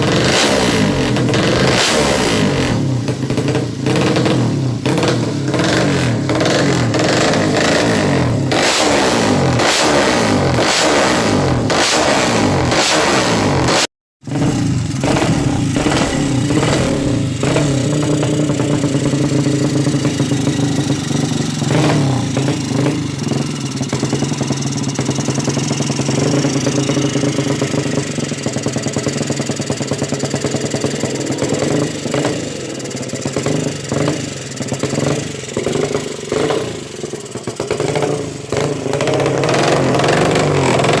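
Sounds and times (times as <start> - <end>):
motorcycle engine idling: 0.0 - 9.7, 14.2 - 41.0
motorcycle engine revving: 0.0 - 41.0.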